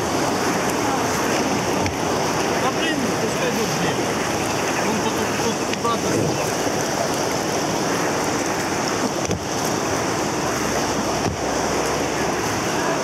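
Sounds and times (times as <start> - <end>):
paddling: 0.0 - 13.0
river water rushing: 0.0 - 13.0
wind buffeting the microphone: 0.0 - 13.0.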